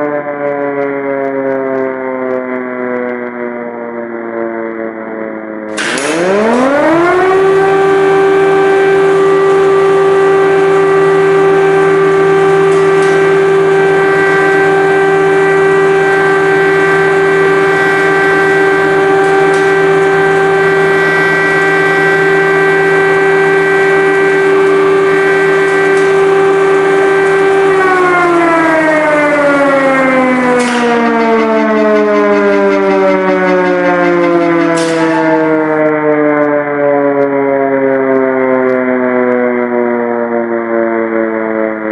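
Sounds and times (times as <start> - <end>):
air-raid siren wailing: 0.0 - 41.9.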